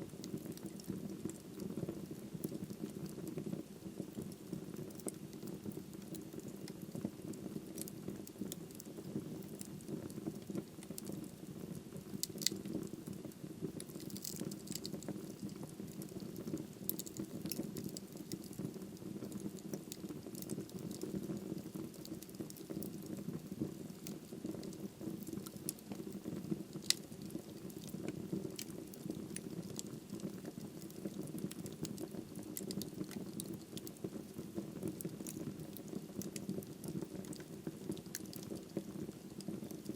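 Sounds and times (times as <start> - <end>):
fire flame rumble: 0.0 - 39.8
wood crackling and popping: 0.0 - 39.9.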